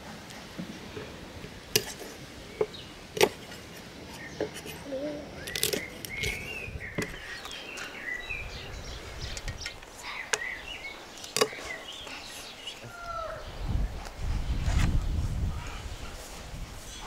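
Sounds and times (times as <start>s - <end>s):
small birds chirping: 0.6s - 17.0s.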